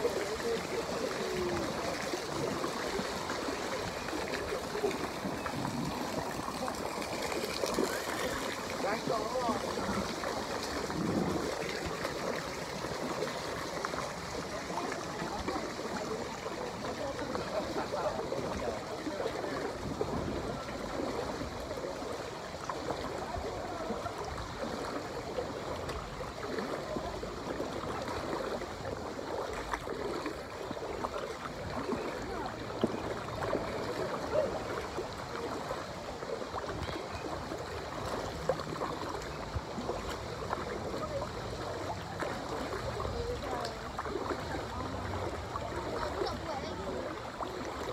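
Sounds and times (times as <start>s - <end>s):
splashes and knocks: 0.0s - 47.9s
water lapping and sloshing: 0.0s - 47.9s.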